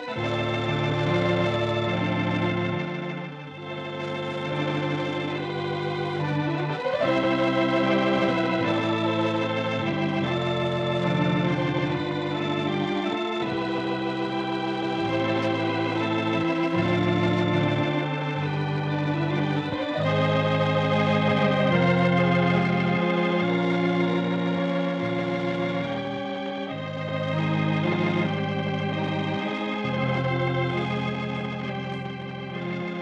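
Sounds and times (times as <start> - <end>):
organ music: 0.0 - 33.0.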